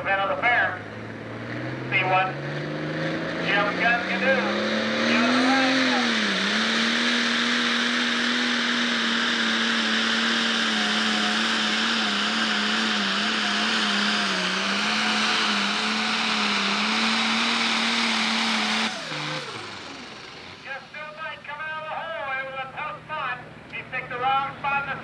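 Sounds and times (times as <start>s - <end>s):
diesel engine at full throttle: 0.0s - 25.0s.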